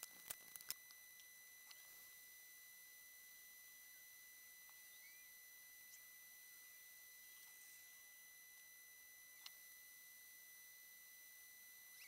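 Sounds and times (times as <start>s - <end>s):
high-pitched electronic whine: 0.0s - 12.0s.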